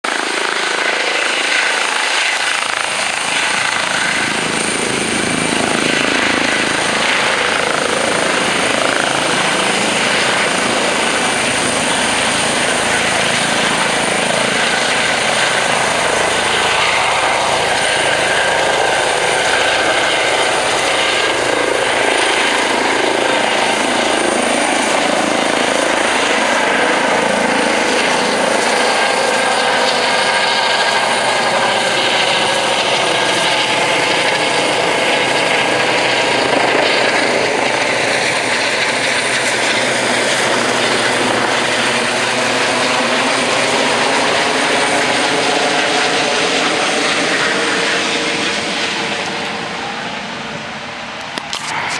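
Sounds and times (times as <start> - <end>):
helicopter turbine whine and rotor: 0.0 - 51.9.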